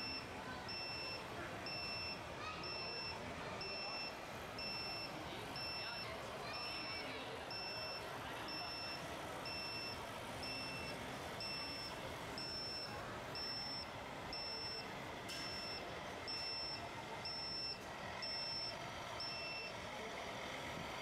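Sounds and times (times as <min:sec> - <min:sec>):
short high-pitched reversing beeps: 0:00.0 - 0:19.8.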